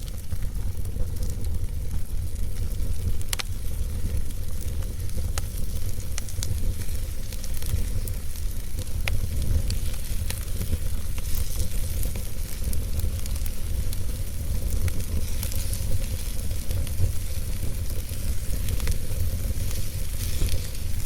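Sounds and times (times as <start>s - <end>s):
campfire crackles and pops: 0.0s - 21.0s
fire low rumble and hiss: 0.0s - 21.0s.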